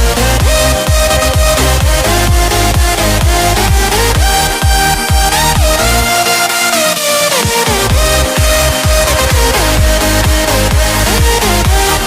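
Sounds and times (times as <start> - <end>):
pounding kick drum: 0.0 - 5.8, 7.4 - 12.0
electronic dance music: 0.0 - 12.0.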